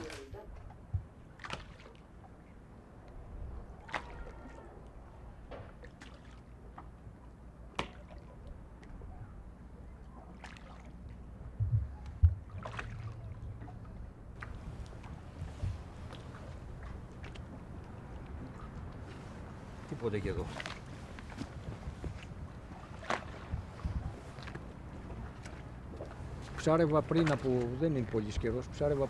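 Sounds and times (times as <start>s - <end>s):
boat knocks and creaks: 0.0s - 2.3s, 3.2s - 29.0s
water lapping against boat hull: 0.0s - 29.0s.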